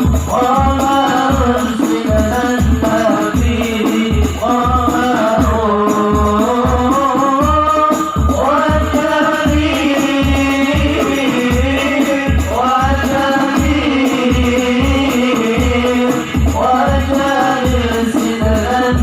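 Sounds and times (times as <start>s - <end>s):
frame drum beat: 0.0s - 19.0s.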